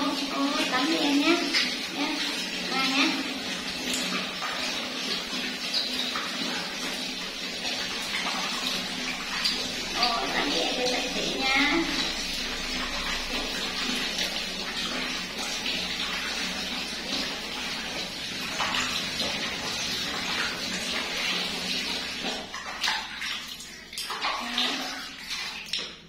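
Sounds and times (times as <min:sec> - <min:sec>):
tap water pouring: 0:00.0 - 0:26.0
water splashing into basin: 0:00.0 - 0:26.0.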